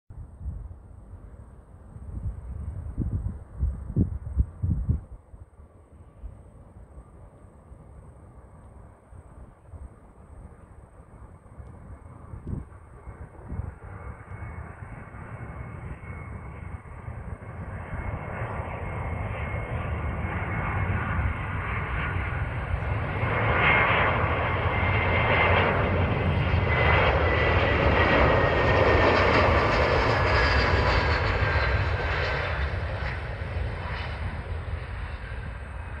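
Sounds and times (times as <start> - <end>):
jet airliner flying low past: 0.2 - 36.0.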